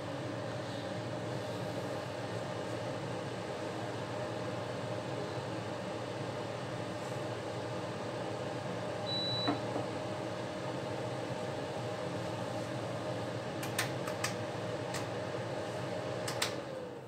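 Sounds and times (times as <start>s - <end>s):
kitchen appliance fan hum: 0.0s - 17.0s.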